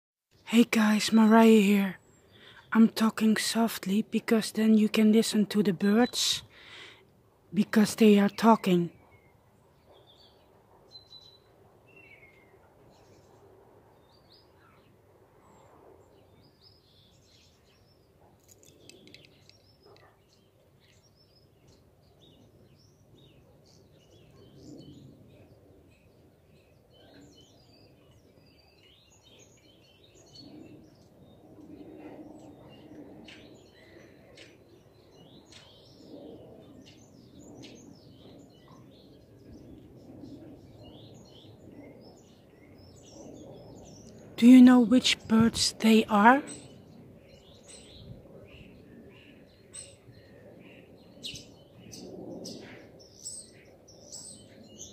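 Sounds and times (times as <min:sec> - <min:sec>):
songbirds chirping: 0:00.3 - 0:54.9.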